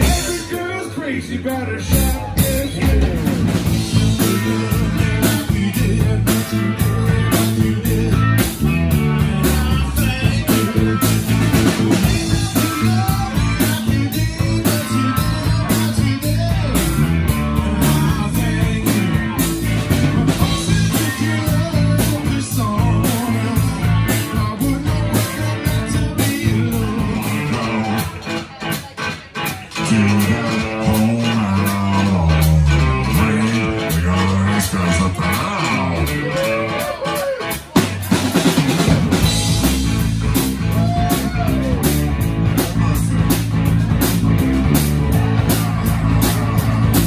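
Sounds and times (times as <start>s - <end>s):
drum kit beat: 0.0s - 1.0s, 1.8s - 47.0s
bass guitar: 0.0s - 47.0s
electric guitar: 0.0s - 47.0s
person singing: 0.0s - 47.0s.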